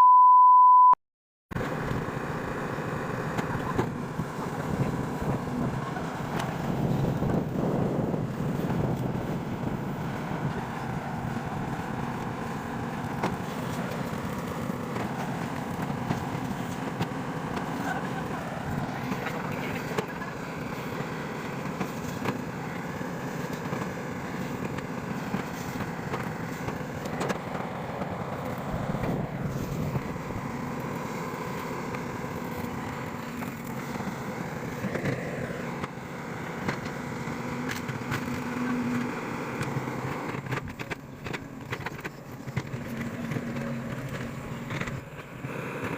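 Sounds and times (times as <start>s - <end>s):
excavator diesel engines running: 1.6s - 45.9s.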